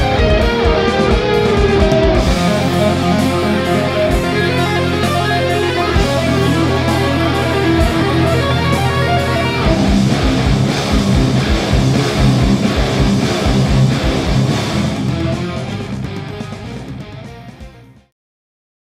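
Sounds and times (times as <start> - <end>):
electric guitar low riff: 0.0 - 18.1.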